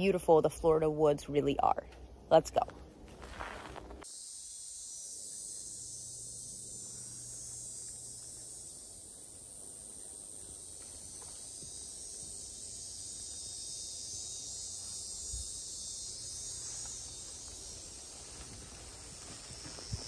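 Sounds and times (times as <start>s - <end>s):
high-pitched insect chorus: 3.2s - 20.0s.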